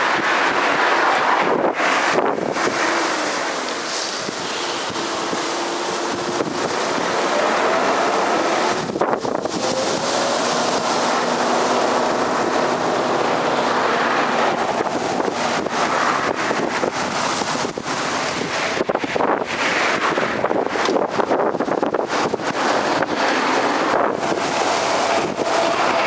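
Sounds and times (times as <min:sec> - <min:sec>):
cars passing on road: 0:00.0 - 0:26.0
wind buffeting microphone: 0:00.0 - 0:26.0.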